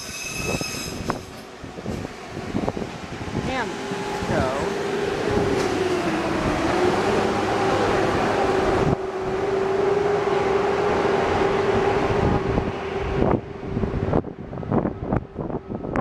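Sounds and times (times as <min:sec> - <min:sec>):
train passing on rails: 0:00.0 - 0:16.0.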